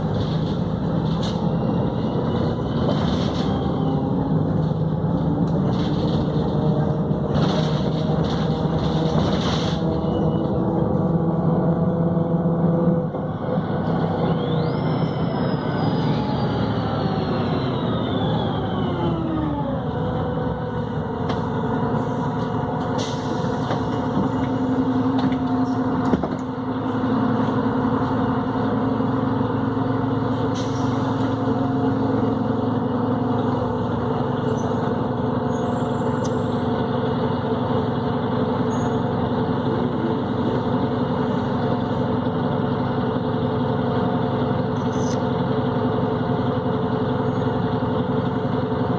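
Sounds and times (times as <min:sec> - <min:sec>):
bus engine drone: 0:00.0 - 0:48.9.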